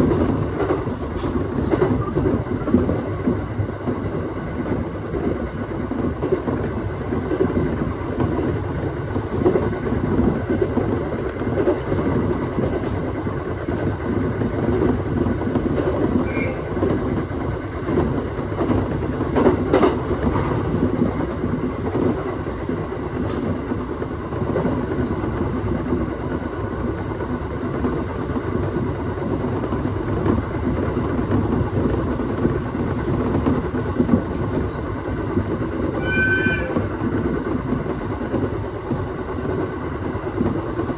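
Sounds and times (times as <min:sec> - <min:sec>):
rail-joint clicks: 0:00.0 - 0:40.9
train wheels rumbling on rails: 0:00.0 - 0:40.9.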